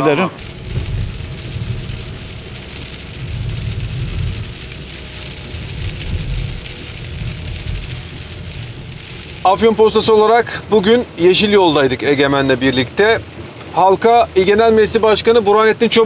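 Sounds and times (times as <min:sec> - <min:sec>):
low rumble: 0:00.0 - 0:15.8
heavy rain on car roof: 0:00.0 - 0:16.0.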